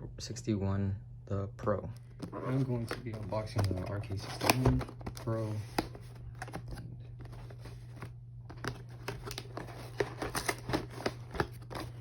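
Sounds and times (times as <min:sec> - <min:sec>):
cardboard box packaging rustling: 0:02.1 - 0:12.0.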